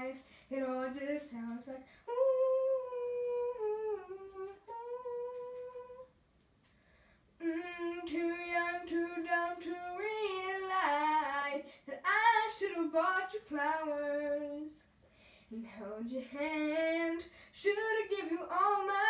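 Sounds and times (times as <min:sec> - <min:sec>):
girl singing wordless vocal runs: 0:00.0 - 0:06.1, 0:07.4 - 0:14.9, 0:15.5 - 0:19.0.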